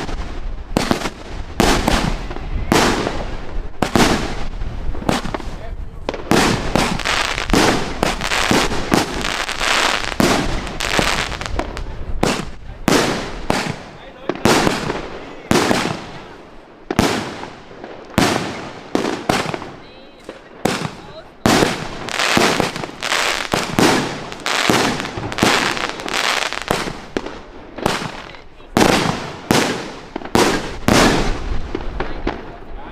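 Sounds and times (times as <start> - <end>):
fireworks bangs: 0.0 - 32.9
fireworks hissing and crackling: 0.0 - 32.9.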